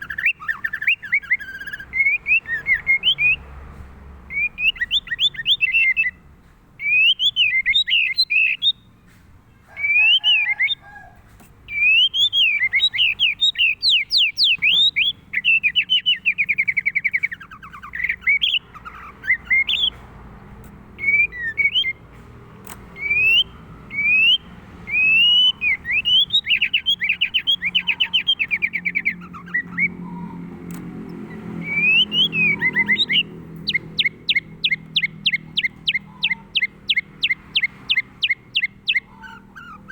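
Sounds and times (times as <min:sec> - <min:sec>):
bird singing whistles and trills: 0:00.0 - 0:03.4, 0:04.3 - 0:06.2, 0:06.8 - 0:08.9, 0:11.7 - 0:20.0, 0:21.0 - 0:22.0, 0:22.9 - 0:30.4, 0:31.3 - 0:39.9.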